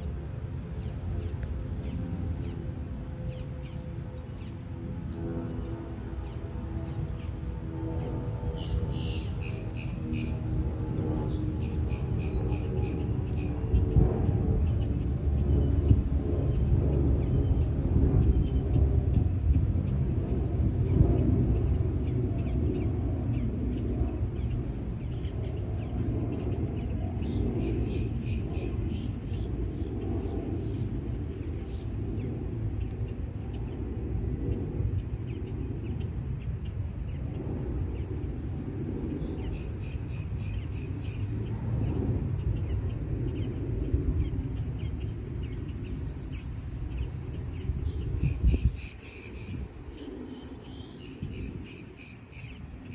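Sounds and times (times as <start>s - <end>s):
steady low rumble: 0.0s - 52.9s
wind buffeting microphone: 0.0s - 52.9s.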